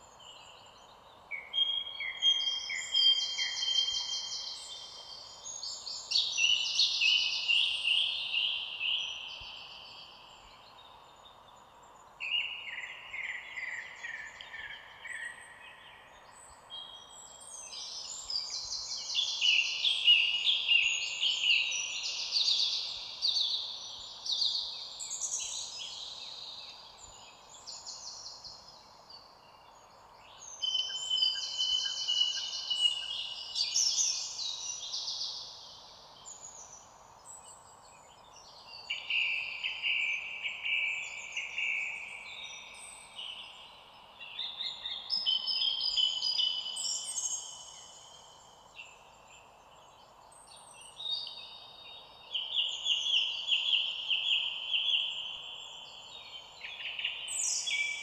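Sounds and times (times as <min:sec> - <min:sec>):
faint steady hiss: 0:00.0 - 0:58.0
songbirds singing: 0:00.0 - 0:58.0.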